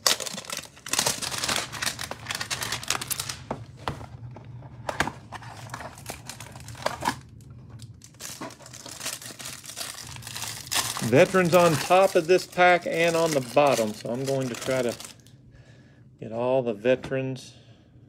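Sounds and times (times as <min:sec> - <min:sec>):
cardboard and plastic crinkling: 0:00.0 - 0:15.3.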